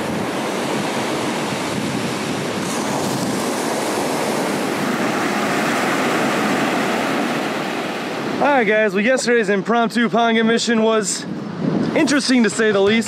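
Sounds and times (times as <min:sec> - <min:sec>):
wind on microphone: 0:00.0 - 0:08.5, 0:10.3 - 0:13.0
ocean surf breaking: 0:00.0 - 0:13.0.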